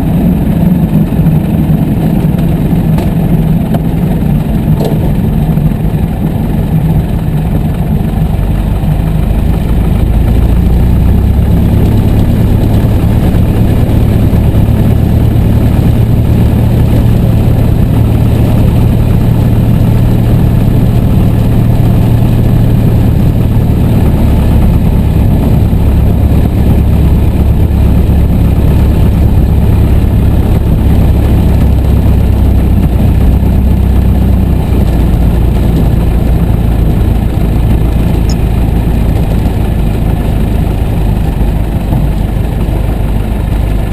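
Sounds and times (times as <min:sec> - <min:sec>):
small plane engine running: 0:00.0 - 0:43.9.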